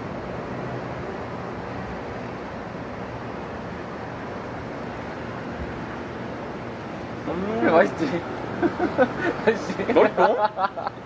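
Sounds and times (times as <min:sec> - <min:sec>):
outdoor background hiss and rumble: 0:00.0 - 0:11.0.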